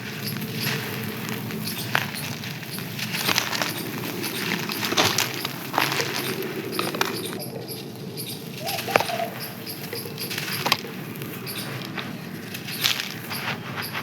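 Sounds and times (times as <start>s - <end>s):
sand crust crumbling and crunching: 0.0s - 14.0s
sharp crackles: 0.0s - 14.0s.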